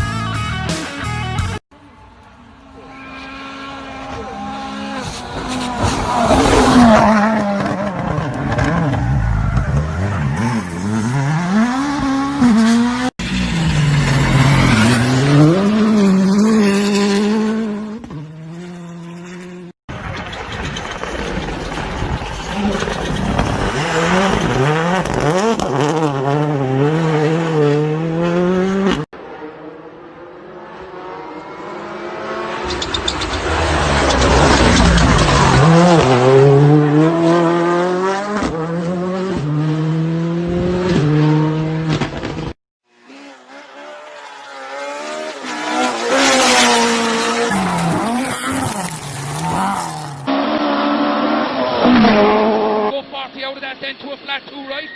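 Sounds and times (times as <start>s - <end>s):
rally car engines revving: 2.4s - 53.1s.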